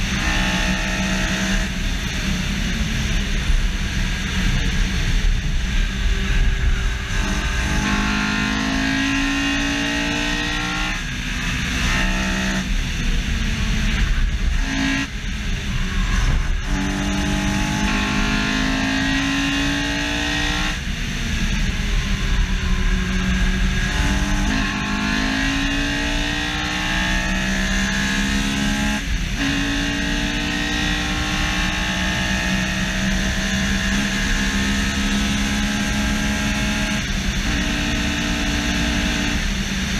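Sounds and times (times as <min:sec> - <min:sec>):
car engine revving through gears: 0:00.0 - 0:39.9
road and wind rumble: 0:00.0 - 0:39.9.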